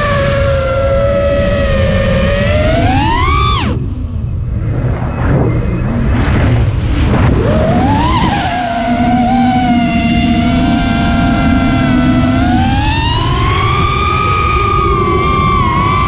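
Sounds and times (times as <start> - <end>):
electric motors whining: 0.0 - 16.0
wind buffeting microphone: 0.0 - 16.0.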